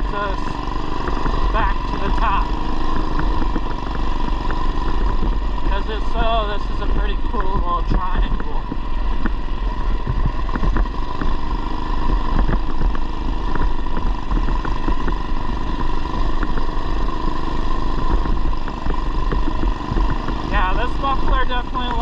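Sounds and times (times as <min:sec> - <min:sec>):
mini bike engine running: 0:00.0 - 0:22.0.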